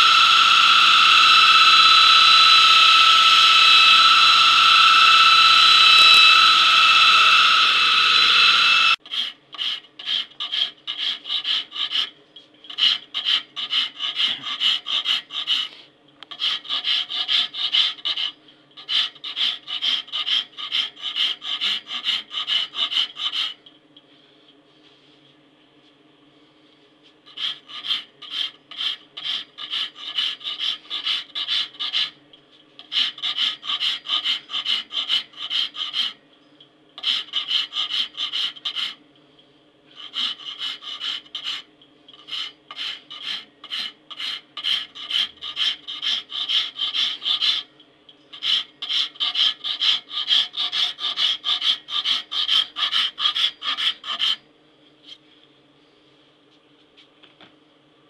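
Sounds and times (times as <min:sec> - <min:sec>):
file rasping on metal: 0:00.0 - 0:23.6, 0:27.3 - 0:32.2, 0:32.8 - 0:36.2, 0:37.0 - 0:39.0, 0:39.9 - 0:47.7, 0:48.3 - 0:54.4.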